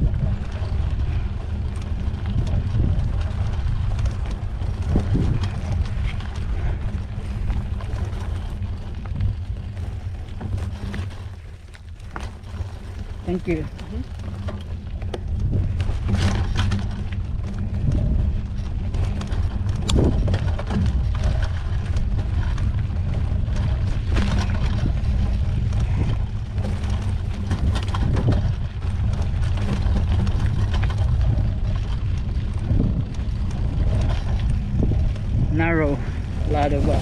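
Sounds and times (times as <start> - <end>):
bike rattling over rough ground: 0.0 - 37.0
wind rumble on microphone: 0.0 - 37.0.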